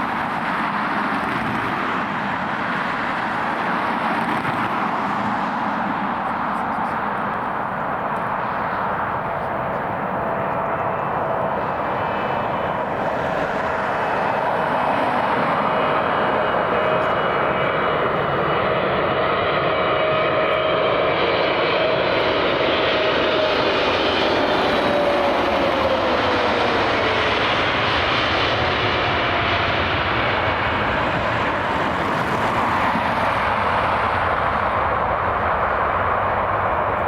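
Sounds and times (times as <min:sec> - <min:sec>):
airliner engines roaring: 0:00.0 - 0:37.0.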